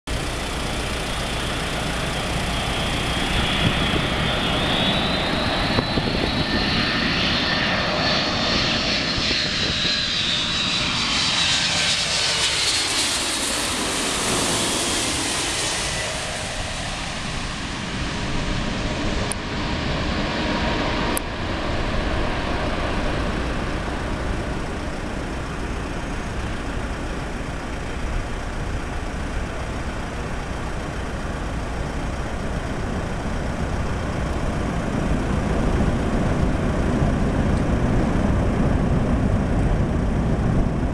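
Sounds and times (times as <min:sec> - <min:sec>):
jet airliner passing overhead: 0:00.1 - 0:40.9.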